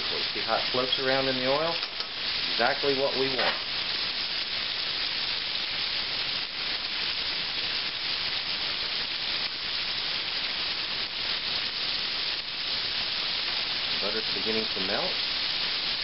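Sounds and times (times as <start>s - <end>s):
steak deep-frying in hot oil: 0.0s - 16.0s.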